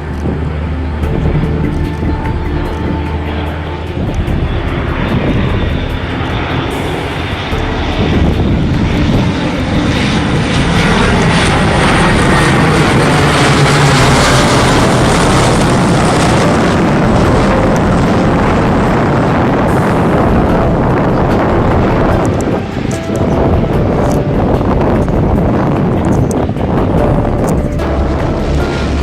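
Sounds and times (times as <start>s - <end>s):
turboprop aircraft engines running: 0.0s - 29.0s.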